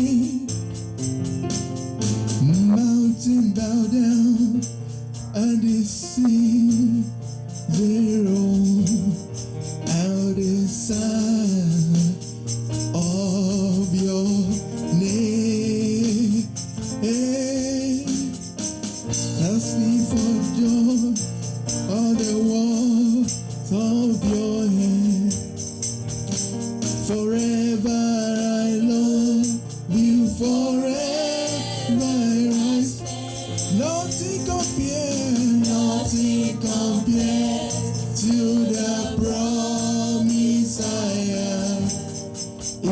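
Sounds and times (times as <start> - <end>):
instrumental accompaniment: 0.0 - 42.9
tambourine jingling: 0.0 - 42.9.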